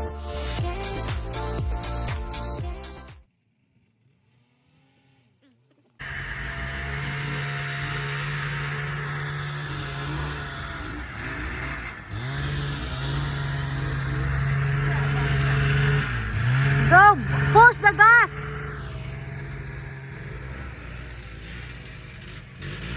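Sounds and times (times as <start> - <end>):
two-stroke snowmobile engine: 3.3 - 22.9.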